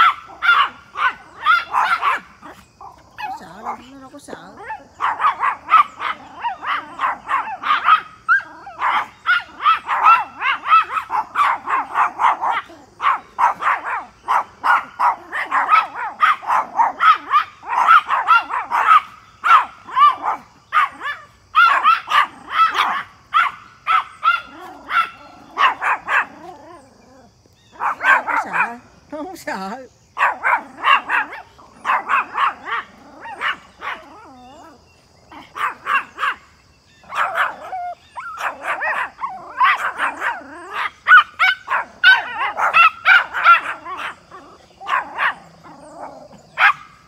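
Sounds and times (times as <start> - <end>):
small dogs yapping: 0.0 - 47.0.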